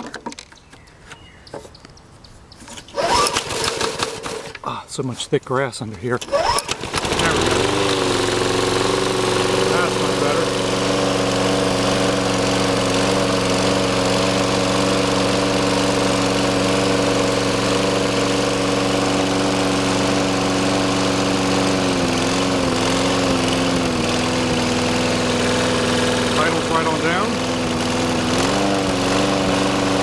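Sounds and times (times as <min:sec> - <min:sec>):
lawn mower engine running: 0:02.7 - 0:04.8, 0:06.1 - 0:30.0.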